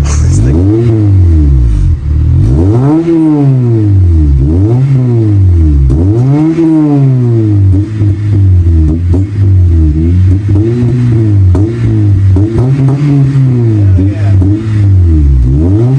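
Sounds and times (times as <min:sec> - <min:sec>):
car engine revving: 0:00.0 - 0:15.9.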